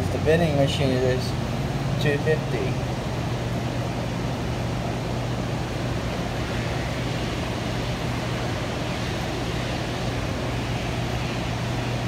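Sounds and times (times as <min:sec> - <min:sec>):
vending machine humming: 0:00.0 - 0:12.0.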